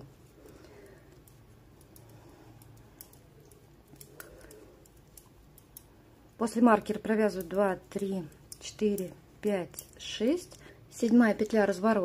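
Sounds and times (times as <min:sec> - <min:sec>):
metal knitting needles clicking: 0:00.0 - 0:11.8.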